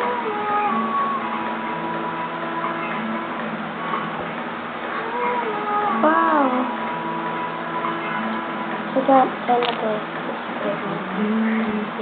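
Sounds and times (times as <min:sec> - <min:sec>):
faint melody of held notes: 0:00.0 - 0:12.0
room noise: 0:00.0 - 0:12.0.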